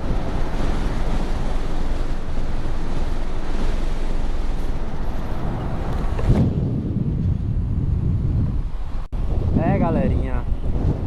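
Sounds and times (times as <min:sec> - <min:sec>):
surrounding traffic: 0:00.0 - 0:09.4
wind rumble on microphone: 0:00.0 - 0:11.0.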